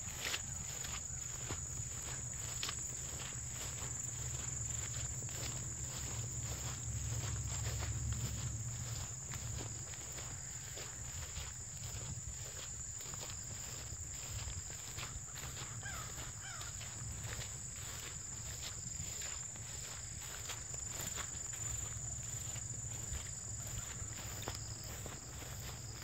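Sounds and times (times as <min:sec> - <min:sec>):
footsteps through tall grass: 0:00.0 - 0:26.0
insect chorus: 0:00.0 - 0:26.0.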